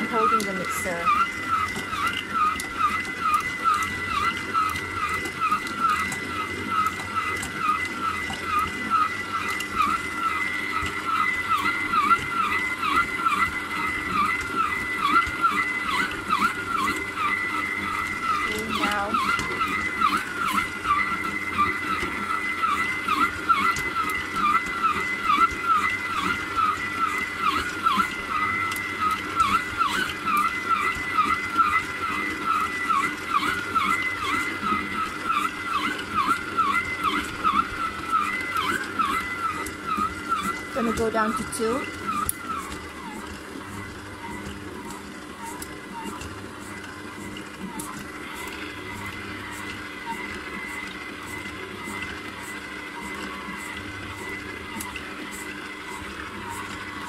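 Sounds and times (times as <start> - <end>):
stand mixer motor whine: 0.0 - 57.0.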